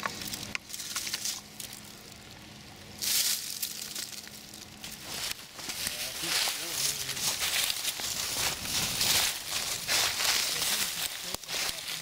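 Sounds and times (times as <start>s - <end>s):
dry leaves rustling and crunching: 0.0s - 2.2s, 3.0s - 12.0s.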